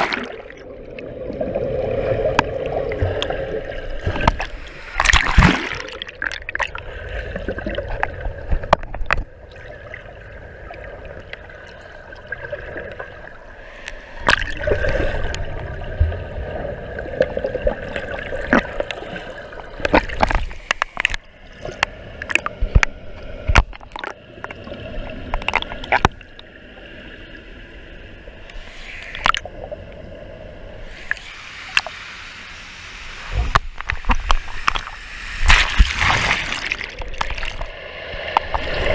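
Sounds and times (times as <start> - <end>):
rush of flowing water: 0.0 - 27.2, 30.7 - 38.9
pool water gurgling and sloshing: 0.0 - 38.9.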